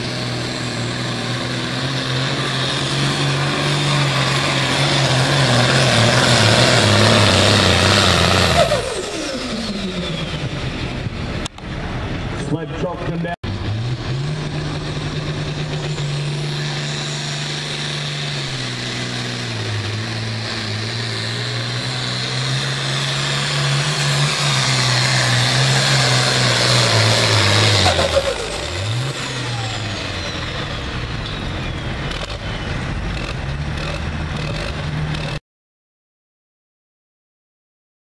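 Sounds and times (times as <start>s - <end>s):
tractor engine under full load: 0.0s - 35.4s.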